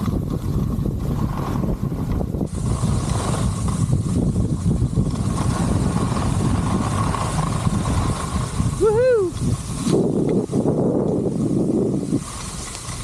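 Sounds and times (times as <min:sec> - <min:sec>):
skis sliding on snow: 0:00.0 - 0:13.0
wind buffeting microphone: 0:00.0 - 0:13.0.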